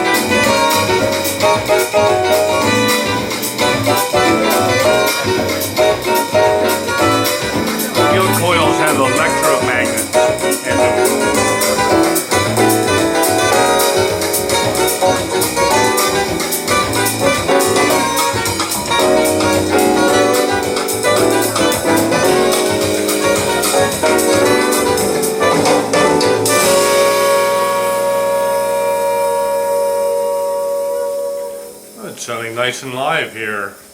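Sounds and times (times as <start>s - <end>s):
recorded jazz music: 0.0s - 33.9s.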